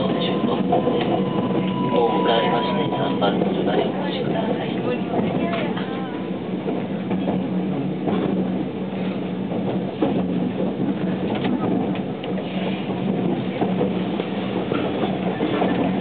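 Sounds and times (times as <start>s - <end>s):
train car low hum: 0.0s - 16.0s
wheels rumbling on rail: 0.0s - 16.0s.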